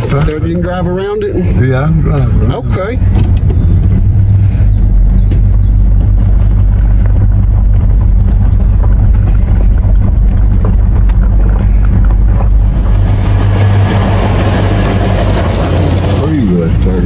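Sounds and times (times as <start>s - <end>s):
vehicle engine humming: 0.0s - 17.0s
wind or road noise: 0.0s - 17.0s.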